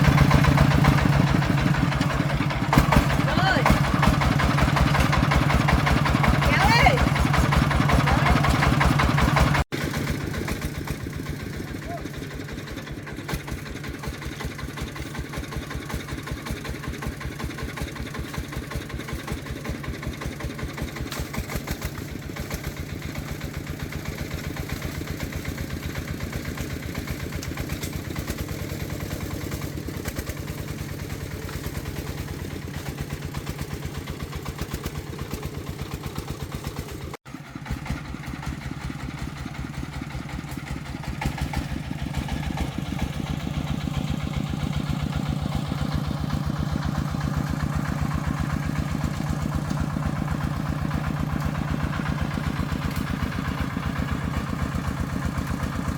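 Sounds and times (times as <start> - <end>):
diesel engine chugging: 0.0 - 55.9.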